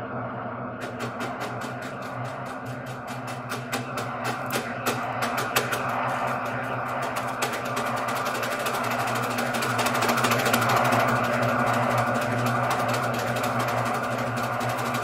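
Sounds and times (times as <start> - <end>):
processed snare brushes buzzing drone: 0.7 - 15.0.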